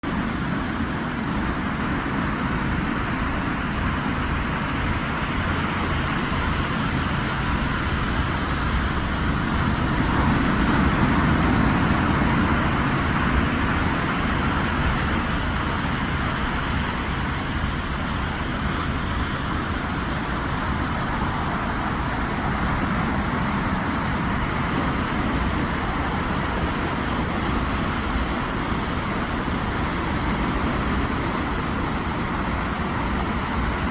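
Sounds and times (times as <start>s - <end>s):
waves washing on beach: 0.0s - 33.9s.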